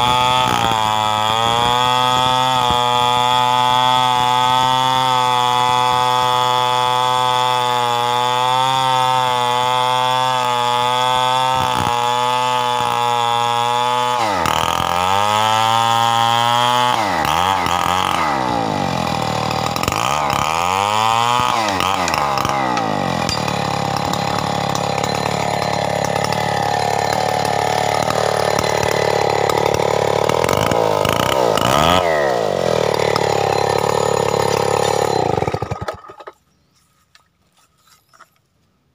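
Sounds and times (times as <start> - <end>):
chainsaw running: 0.0 - 36.4.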